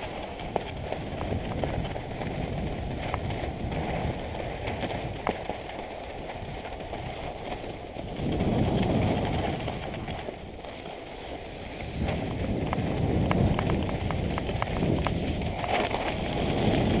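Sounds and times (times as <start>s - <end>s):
skis scraping over snow: 0.0s - 17.0s
wind rushing over microphone: 0.0s - 17.0s.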